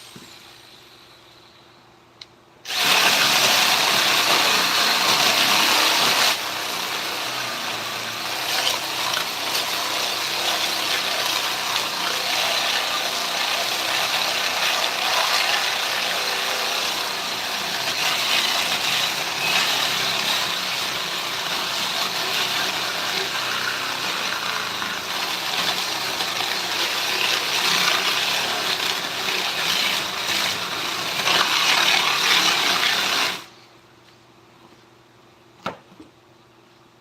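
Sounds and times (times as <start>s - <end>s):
power tool grinding wood: 2.7s - 33.5s.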